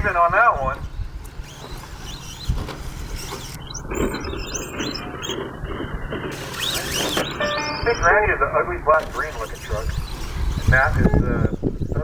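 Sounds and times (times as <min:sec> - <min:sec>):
electric motors whining: 0:00.0 - 0:12.0.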